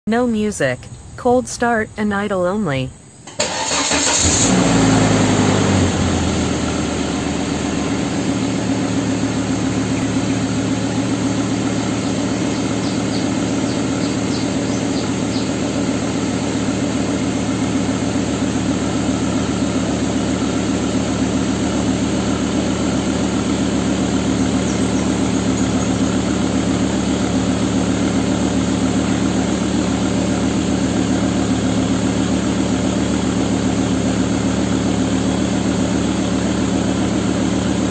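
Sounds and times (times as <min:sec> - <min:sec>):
car engine idling: 0:03.0 - 0:37.9.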